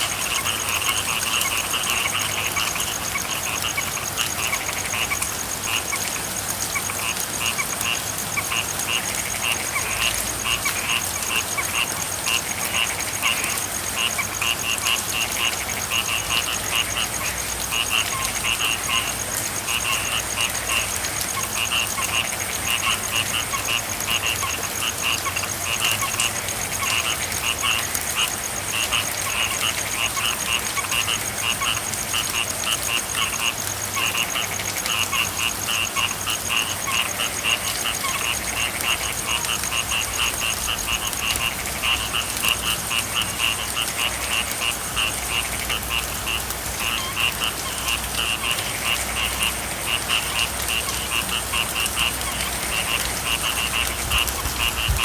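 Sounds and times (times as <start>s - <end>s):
frogs croaking: 0.0s - 55.0s
rain hiss: 0.0s - 55.0s.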